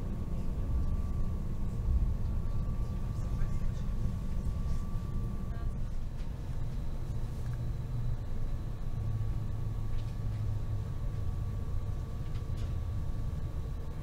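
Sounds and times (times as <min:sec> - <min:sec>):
faint steady whine: 0:00.0 - 0:14.0
train low rumble: 0:00.0 - 0:14.0.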